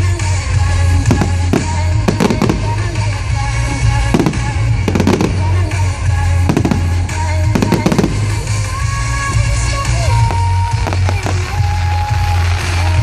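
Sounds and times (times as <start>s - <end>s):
fireworks bursting: 0.0s - 13.0s
loud music: 0.0s - 13.0s.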